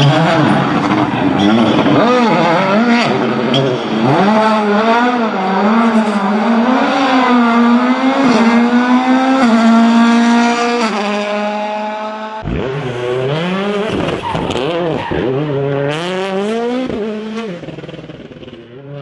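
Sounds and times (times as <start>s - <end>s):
rally car engine revving hard: 0.0s - 19.0s.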